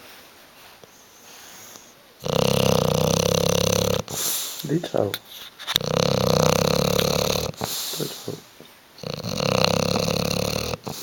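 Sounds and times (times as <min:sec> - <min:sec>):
dog snoring: 0:00.9 - 0:11.0.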